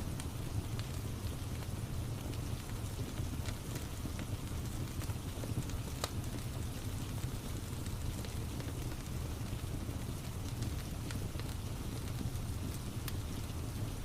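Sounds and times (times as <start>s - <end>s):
steady rain: 0.0s - 14.0s
wood fire crackling and popping: 0.0s - 14.0s.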